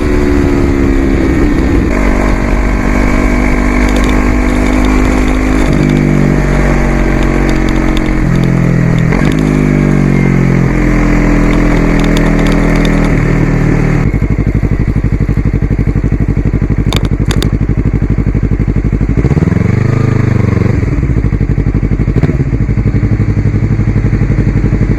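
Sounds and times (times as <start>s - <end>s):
motorcycle engine revving through gears: 0.0s - 24.9s.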